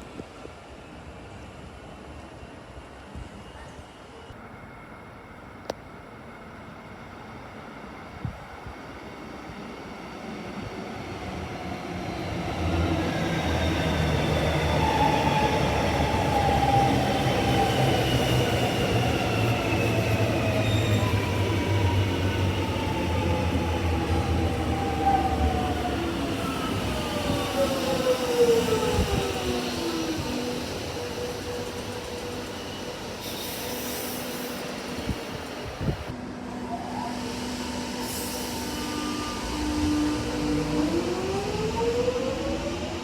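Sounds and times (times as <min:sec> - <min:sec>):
electric train low rumble: 0:00.0 - 0:43.0.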